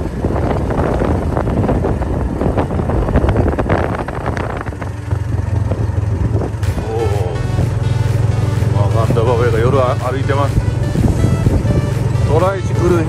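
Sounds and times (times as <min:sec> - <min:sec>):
vehicle engine rumbling: 0:00.0 - 0:13.0
wind buffeting microphone: 0:00.0 - 0:13.0.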